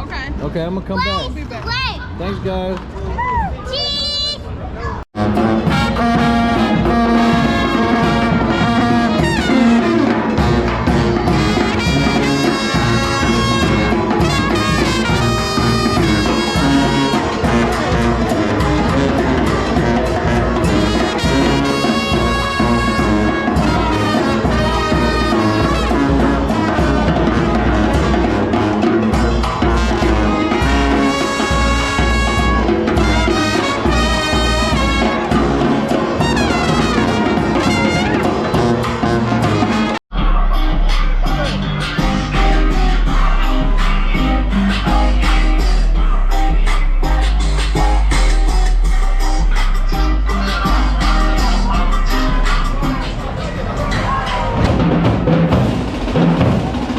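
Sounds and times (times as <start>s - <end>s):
brass band playing jazz: 5.2s - 56.9s
trumpet lead: 5.2s - 56.9s.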